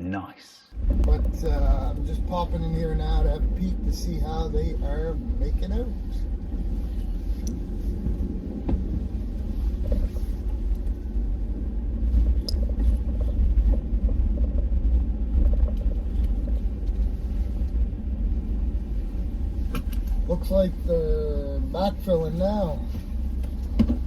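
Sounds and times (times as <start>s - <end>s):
truck engine rumble: 0.7s - 24.0s
faint clicks and rattles: 0.8s - 20.6s.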